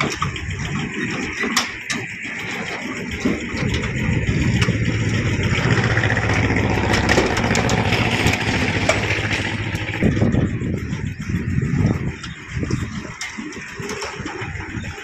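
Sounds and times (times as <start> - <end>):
mechanical rumble with fast rattle: 0.0 - 15.0.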